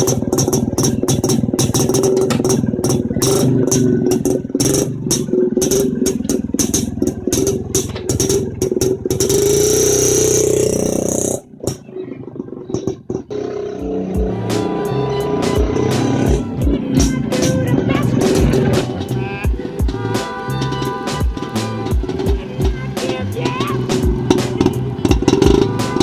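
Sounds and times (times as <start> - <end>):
two-stroke motorcycle engine running: 0.0 - 26.0.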